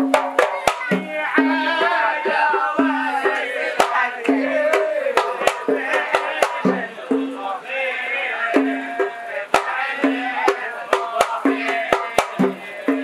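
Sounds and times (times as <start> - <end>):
hand drums striking: 0.0 - 7.4, 8.5 - 13.0
men singing: 0.0 - 13.0.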